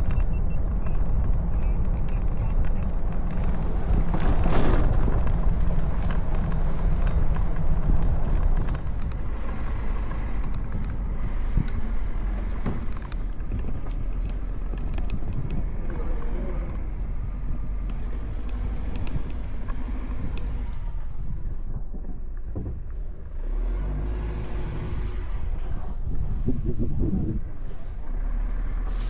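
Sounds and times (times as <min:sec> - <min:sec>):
vehicle engine and road rumble: 0:00.0 - 0:29.0
wind noise: 0:00.0 - 0:29.0.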